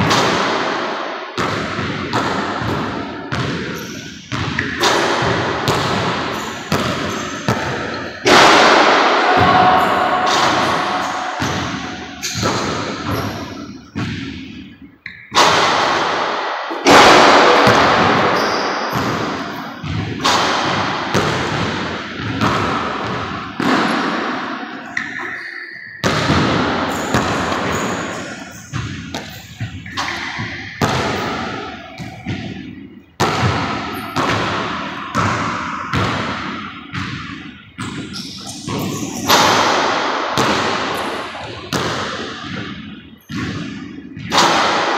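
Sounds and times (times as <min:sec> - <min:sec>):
ball striking backboard and rim: 0:00.0 - 0:25.4, 0:26.0 - 0:44.9
basketball bouncing on wooden floor: 0:01.4 - 0:16.0, 0:16.9 - 0:24.2, 0:26.0 - 0:44.8.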